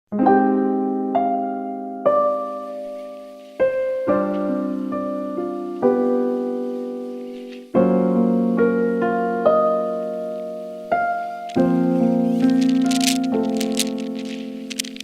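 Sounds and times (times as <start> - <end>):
slow piano music: 0.1 - 15.0.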